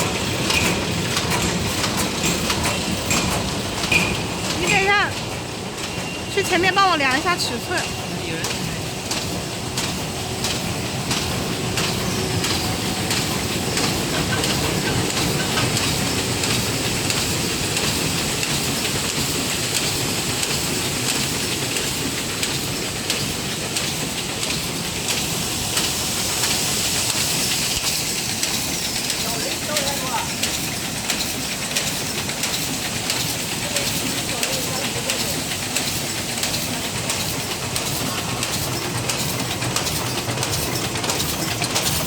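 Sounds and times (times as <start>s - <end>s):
machine clattering: 0.0s - 42.0s.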